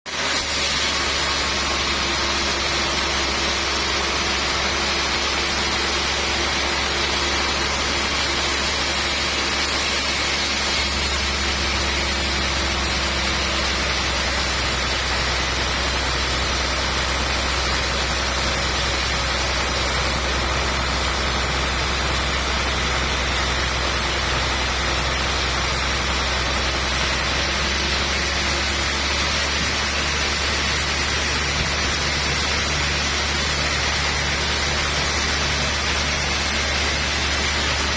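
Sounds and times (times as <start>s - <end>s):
sawmill machinery hissing: 0.1s - 37.9s
low machine hum: 1.0s - 37.9s.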